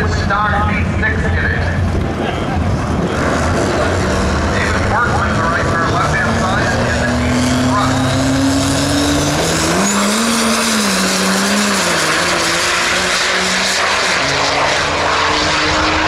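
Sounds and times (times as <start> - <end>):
diesel engine at full throttle: 0.0 - 16.0.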